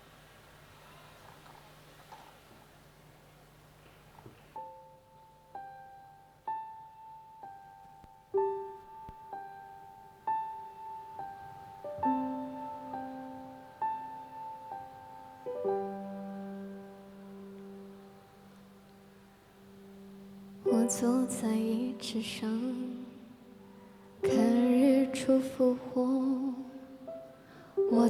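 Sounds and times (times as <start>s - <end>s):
slow solo piano: 3.9s - 28.0s.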